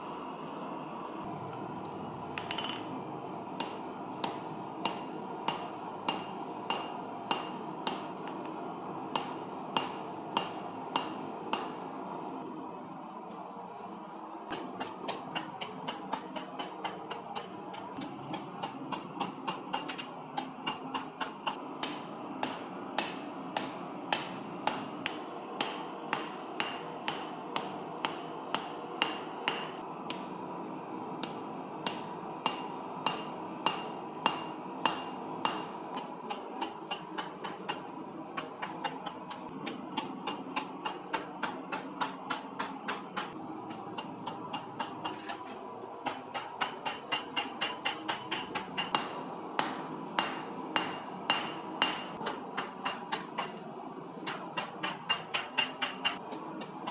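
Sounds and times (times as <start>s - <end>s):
steady hum: 0.0s - 56.9s
hammer striking steel on anvil: 2.4s - 3.0s, 3.6s - 11.9s, 14.5s - 30.4s, 31.2s - 53.6s, 54.2s - 56.9s.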